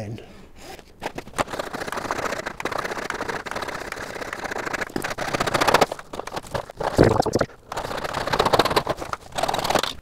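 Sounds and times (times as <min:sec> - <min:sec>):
hacksaw sawing plastic pipe: 0:01.3 - 0:10.0.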